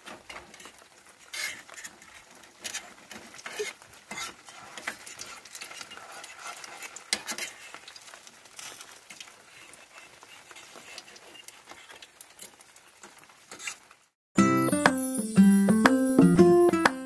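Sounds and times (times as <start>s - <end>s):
oil crackling and popping: 0.0s - 14.2s
patty sizzling in hot oil: 0.0s - 14.2s.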